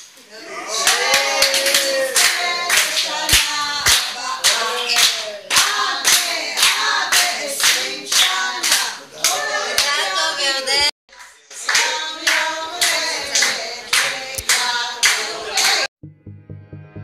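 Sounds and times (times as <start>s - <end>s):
group of people singing: 0.3s - 15.9s.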